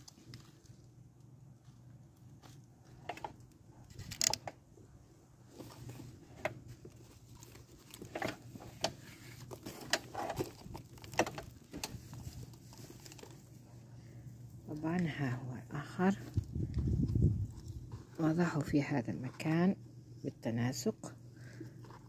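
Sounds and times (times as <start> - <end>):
hands rustling potting soil: 0.0 - 4.4, 5.2 - 19.8
faint low hum: 0.0 - 22.0.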